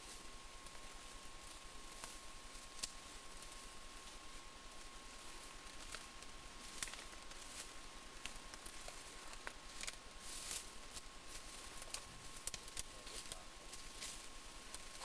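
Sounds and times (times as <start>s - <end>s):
leaves and twigs crackling underfoot: 0.0s - 15.0s.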